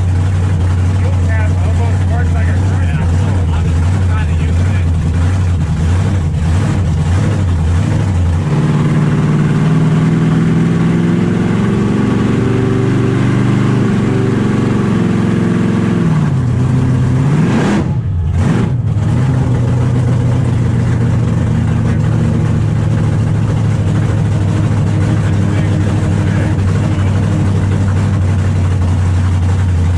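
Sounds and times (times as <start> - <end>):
loud car engine while driving: 0.0 - 29.9.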